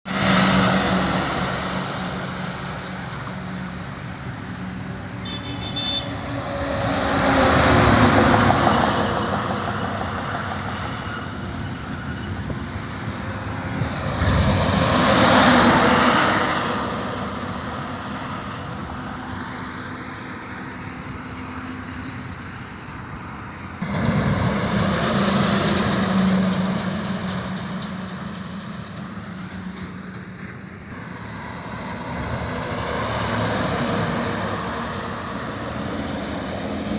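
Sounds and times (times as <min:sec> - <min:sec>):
heavy trucks passing: 0:00.0 - 0:36.9.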